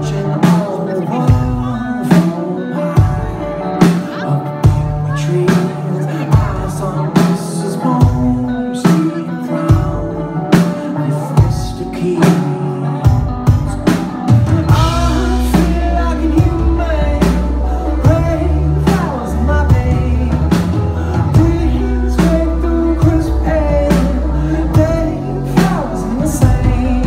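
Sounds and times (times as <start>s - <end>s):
deep bass line: 0.0s - 10.6s, 11.2s - 27.0s
drum kit beat: 0.0s - 27.0s
electric guitar: 0.0s - 27.0s
male lead vocal: 0.0s - 27.0s.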